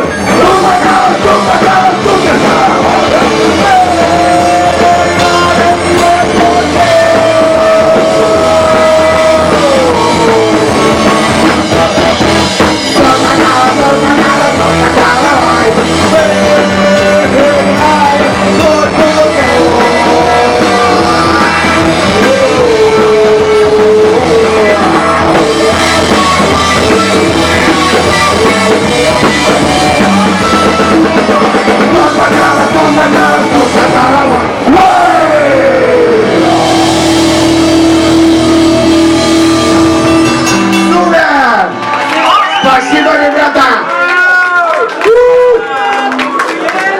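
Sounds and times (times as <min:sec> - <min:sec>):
sliding lead melody: 0:00.0 - 0:42.1
drum kit: 0:00.0 - 0:42.6
bass guitar: 0:00.0 - 0:42.9
electric guitar: 0:00.0 - 0:43.0.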